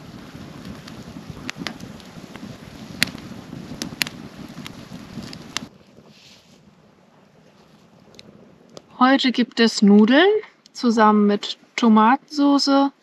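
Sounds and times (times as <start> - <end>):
campfire crackling and popping: 0.0 - 12.0
low steady rushing noise: 0.0 - 13.0.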